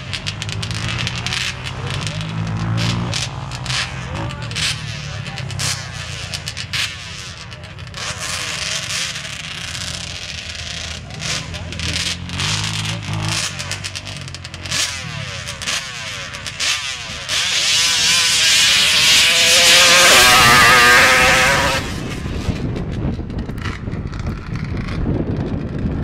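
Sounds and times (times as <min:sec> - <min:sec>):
quad engine revving: 0:00.0 - 0:26.0.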